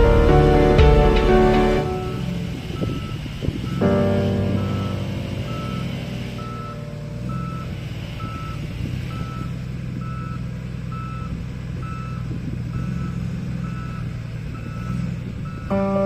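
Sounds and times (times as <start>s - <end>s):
diesel engine drone: 0.0s - 16.0s
reversing alarm beeping: 0.0s - 16.0s.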